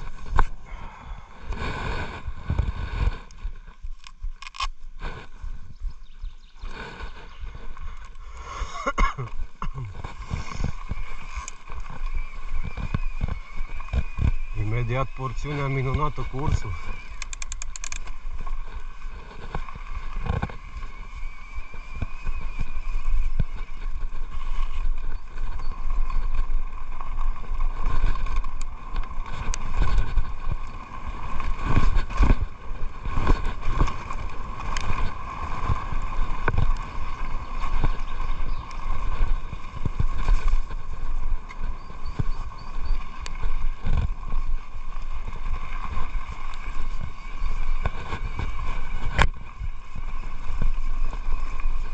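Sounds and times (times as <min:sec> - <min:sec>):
bike tyres rumbling on dirt: 0:00.0 - 0:51.9
bike knocking and rattling: 0:05.6 - 0:51.9.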